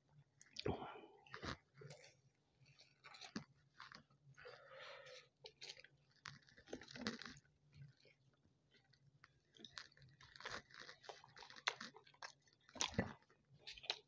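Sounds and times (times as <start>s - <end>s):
chewing and crunching: 0.4s - 14.0s.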